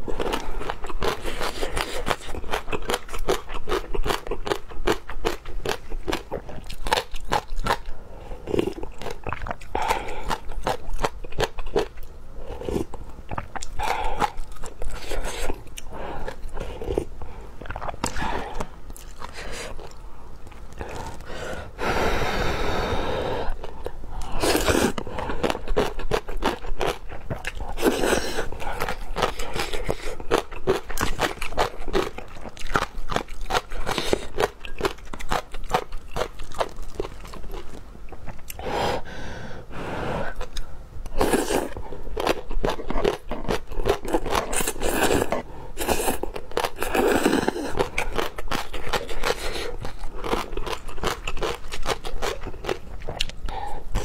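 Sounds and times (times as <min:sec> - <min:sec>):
chewing with mouth clicks: 0:00.1 - 0:21.3, 0:23.5 - 0:38.6, 0:40.4 - 0:54.0.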